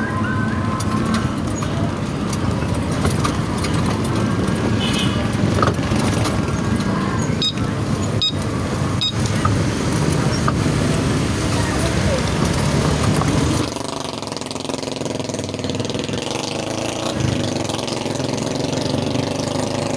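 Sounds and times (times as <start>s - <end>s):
golf cart tyres rumbling: 0.0s - 19.9s.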